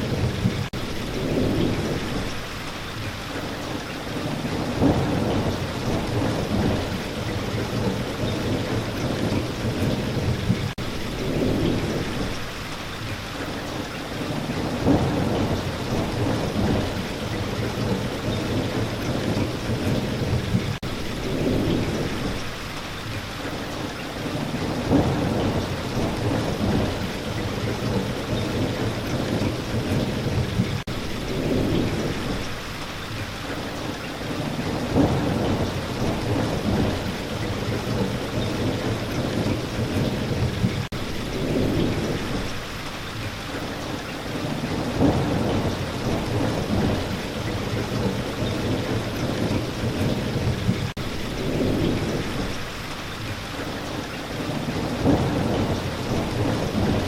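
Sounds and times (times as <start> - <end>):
thunder rolling: 0.0 - 2.4, 4.2 - 12.6, 14.2 - 22.6, 24.3 - 32.7, 34.2 - 42.7, 44.3 - 52.6, 54.3 - 57.0
rain falling: 0.0 - 57.0.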